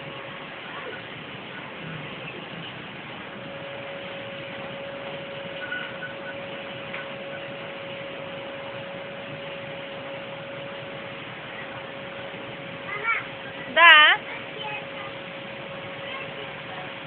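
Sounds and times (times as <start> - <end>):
vacuum cleaner running: 3.2 - 17.0.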